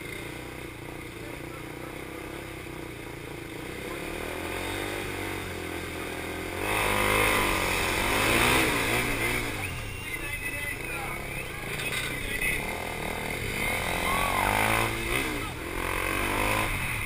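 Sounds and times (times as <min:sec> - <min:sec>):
motorcycle engines idling and revving: 0:00.0 - 0:17.0.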